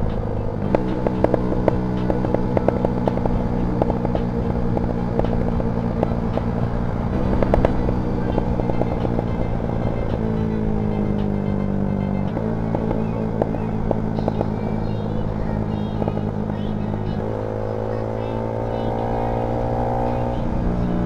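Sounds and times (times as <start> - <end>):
exhaust popping: 0.0 - 21.0
motorcycle engine running: 0.0 - 21.0.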